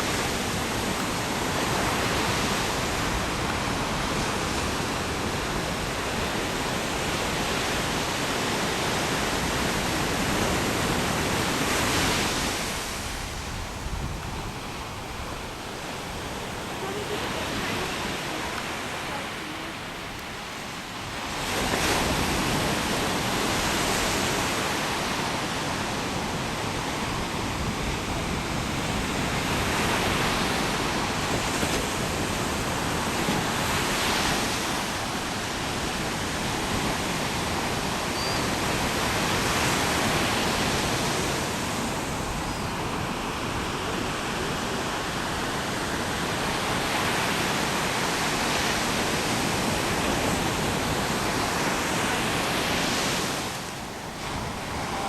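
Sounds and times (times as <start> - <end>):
ocean surf washing in: 0.0 - 55.0.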